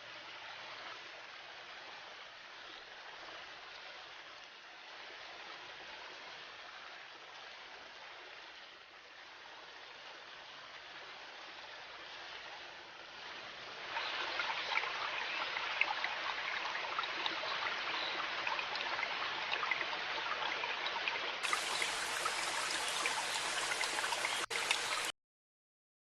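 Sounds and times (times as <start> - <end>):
river water babbling: 0.0 - 25.1
small water splashes: 0.0 - 25.1.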